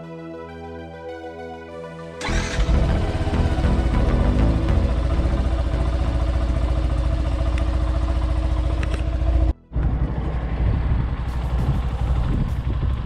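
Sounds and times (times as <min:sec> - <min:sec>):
motorcycle engine idling: 0:02.2 - 0:13.0.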